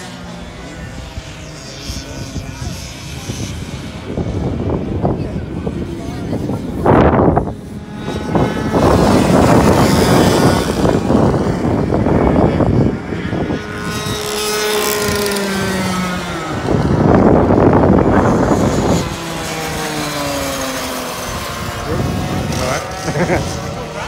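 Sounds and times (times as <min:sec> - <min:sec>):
racing karts passing by: 0:00.0 - 0:24.0.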